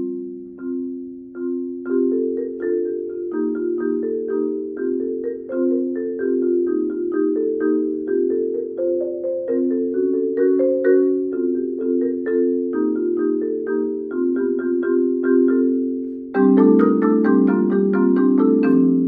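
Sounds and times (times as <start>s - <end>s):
marimba music: 0.0s - 19.0s.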